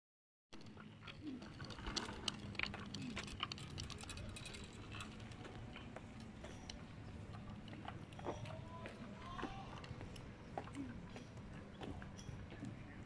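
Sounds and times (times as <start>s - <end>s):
bicycle rolling over asphalt: 0.6s - 13.0s
light clicks and rattles: 0.6s - 13.0s.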